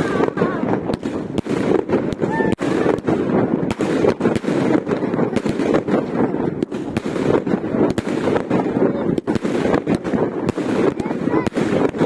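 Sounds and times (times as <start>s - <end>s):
continuous rumble: 0.0s - 12.0s
firecrackers banging and crackling: 0.0s - 12.0s.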